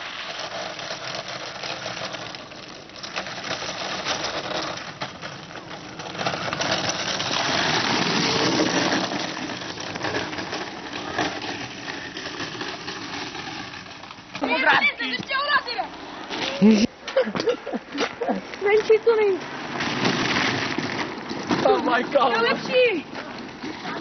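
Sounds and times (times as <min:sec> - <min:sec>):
kart rattling down rough road: 0:00.0 - 0:24.0.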